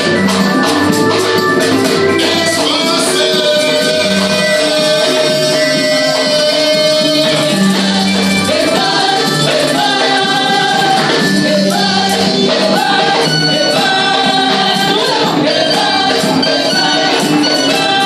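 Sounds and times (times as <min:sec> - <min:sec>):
group singing gospel in chorus: 0:00.0 - 0:18.0.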